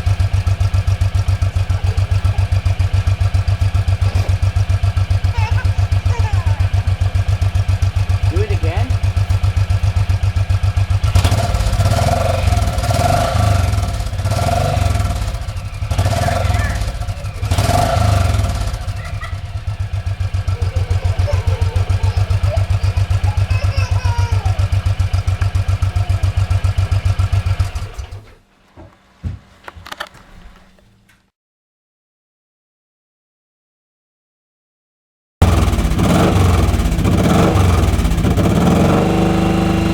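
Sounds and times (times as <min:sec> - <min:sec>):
motorcycle exhaust idling and revving: 0:00.0 - 0:28.3, 0:35.4 - 0:39.9.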